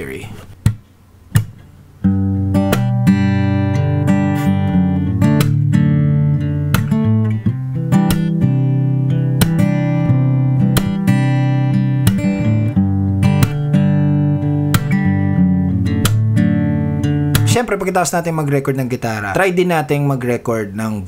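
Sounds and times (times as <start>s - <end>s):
acoustic guitar strumming chords: 0.5s - 19.6s.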